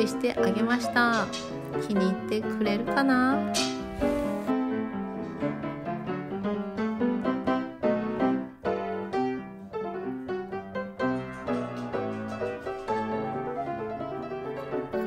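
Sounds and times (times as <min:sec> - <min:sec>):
light piano tune: 0:00.0 - 0:15.0.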